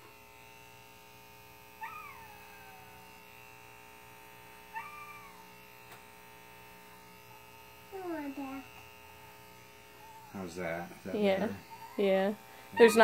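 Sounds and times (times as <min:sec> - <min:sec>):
hair clippers buzzing: 0:00.0 - 0:13.0.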